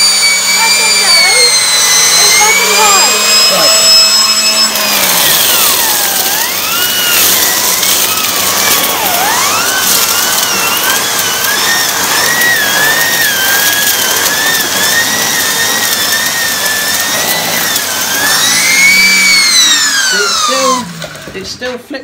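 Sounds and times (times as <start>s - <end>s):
vacuum cleaner whine: 0.0s - 22.0s.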